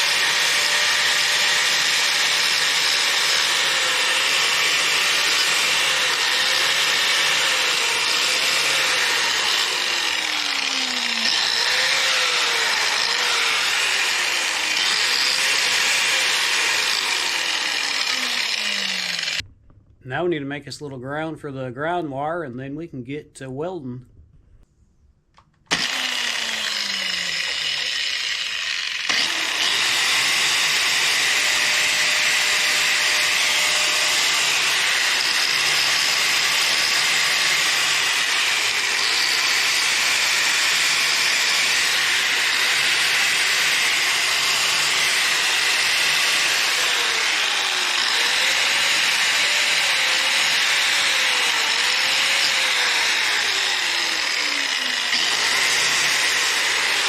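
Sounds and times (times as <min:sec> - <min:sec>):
electric grinder grinding steel: 0:00.0 - 0:19.4, 0:25.7 - 0:57.0.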